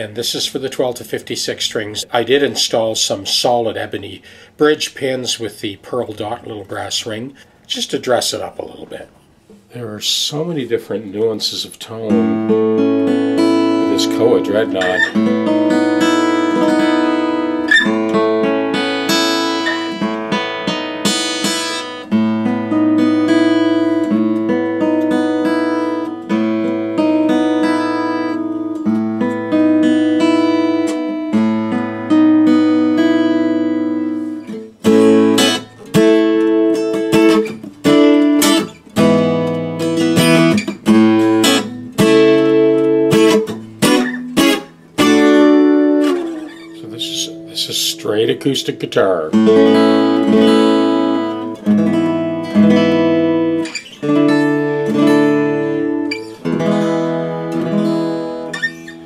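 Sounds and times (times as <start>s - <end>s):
acoustic guitar chords: 10.5s - 59.0s.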